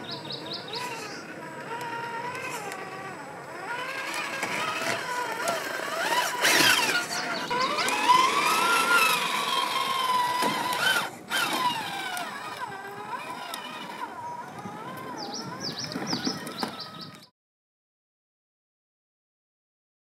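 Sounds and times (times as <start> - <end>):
electric motor and gears whining: 0.0 - 17.3.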